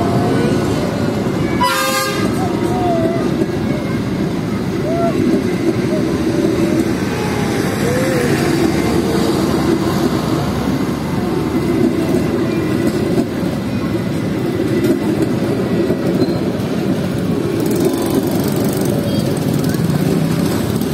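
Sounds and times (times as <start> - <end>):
train wheels on rails: 0.0 - 20.9.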